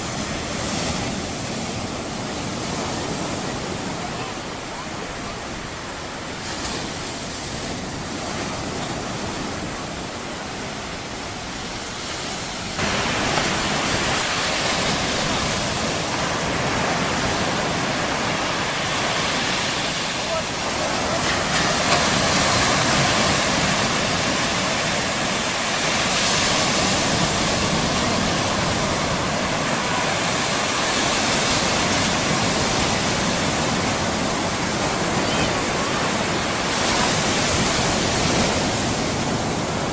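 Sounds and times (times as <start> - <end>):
surf washing on beach: 0.0 - 39.9.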